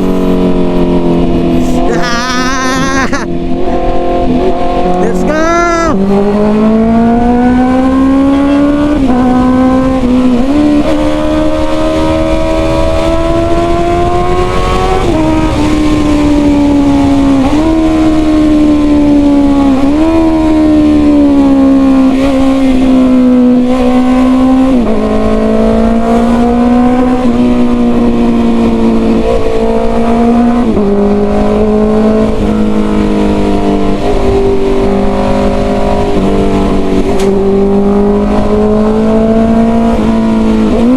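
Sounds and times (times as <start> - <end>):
motorcycle engine shifting gears: 0.0 - 5.1, 5.9 - 40.9.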